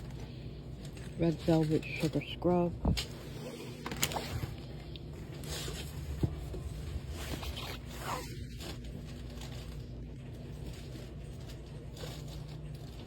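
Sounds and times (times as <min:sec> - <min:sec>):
packages rustling and handled: 0:00.0 - 0:13.0
steady low hum: 0:00.0 - 0:13.0.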